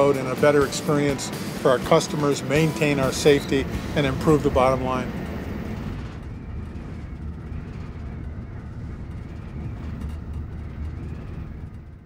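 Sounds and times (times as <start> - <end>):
low rumble inside railroad car: 0.0 - 12.0.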